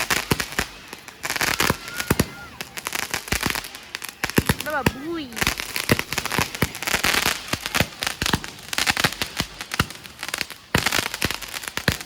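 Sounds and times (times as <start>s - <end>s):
firecracker bangs: 0.0s - 12.0s
fireworks crackling: 0.0s - 12.0s.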